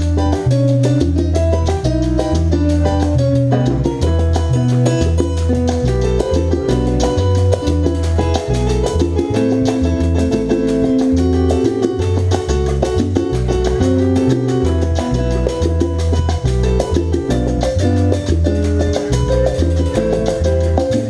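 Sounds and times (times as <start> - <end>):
salsa band over sound system: 0.0 - 21.0.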